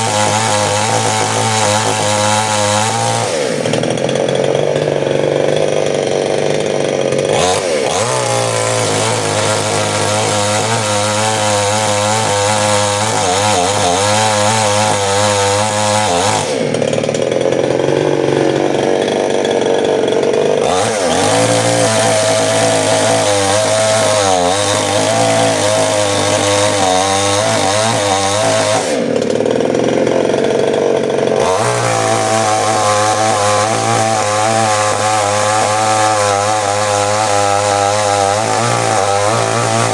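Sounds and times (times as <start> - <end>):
chainsaw running at high throttle: 0.0 - 39.9.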